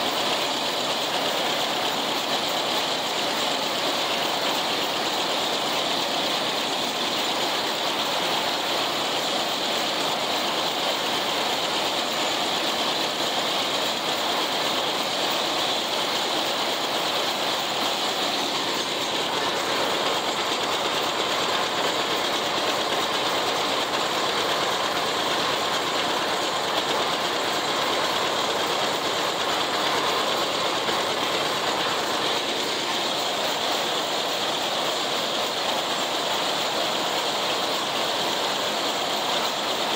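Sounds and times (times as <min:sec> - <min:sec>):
tractor and mower mechanical din: 0:00.0 - 0:39.9.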